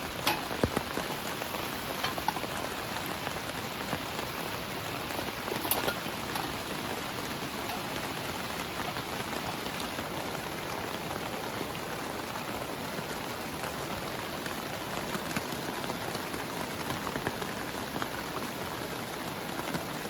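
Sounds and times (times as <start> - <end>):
heavy rain pouring: 0.0 - 20.0
raindrops ticking: 0.0 - 20.0.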